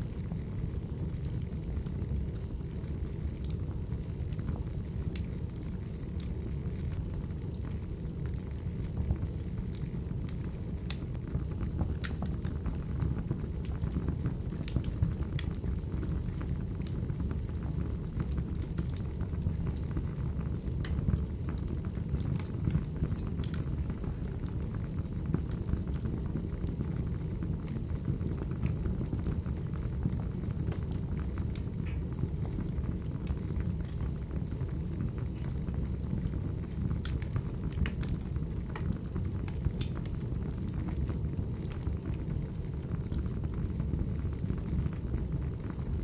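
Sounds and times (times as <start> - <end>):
fire flames rumbling: 0.0 - 46.0
fire pops and crackles: 0.0 - 46.0.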